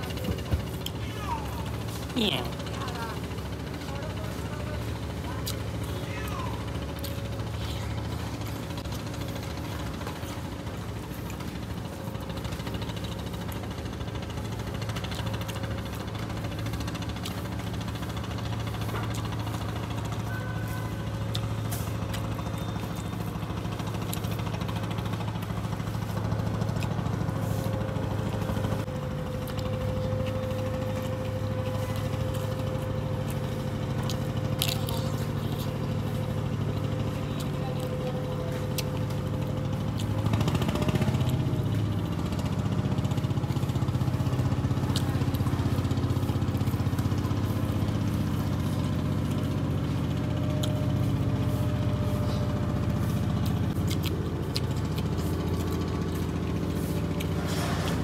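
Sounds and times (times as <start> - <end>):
low motor hum: 0.0 - 58.0.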